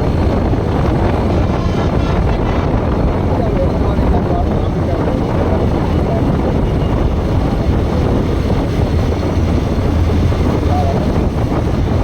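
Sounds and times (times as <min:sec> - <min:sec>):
motorcycle engine humming: 0:00.0 - 0:12.0
wind rushing on microphone: 0:00.0 - 0:12.0.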